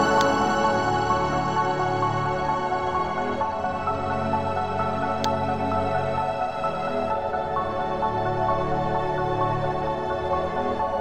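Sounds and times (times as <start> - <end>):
ambient instrumental music: 0.0 - 11.0.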